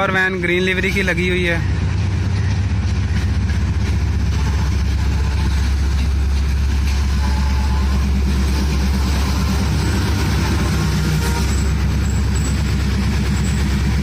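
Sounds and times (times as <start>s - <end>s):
diesel train engine idling: 0.0s - 14.0s.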